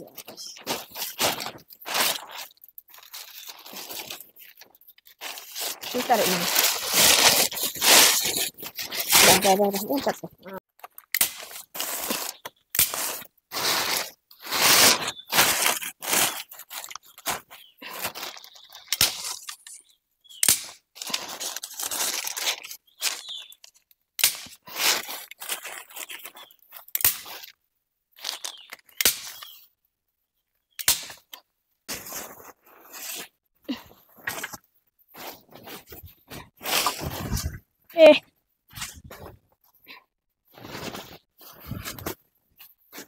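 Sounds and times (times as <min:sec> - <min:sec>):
plastic tarpaulin crinkling: 0:00.0 - 0:19.7, 0:21.0 - 0:23.8, 0:24.5 - 0:27.6, 0:28.2 - 0:29.5, 0:31.9 - 0:43.0.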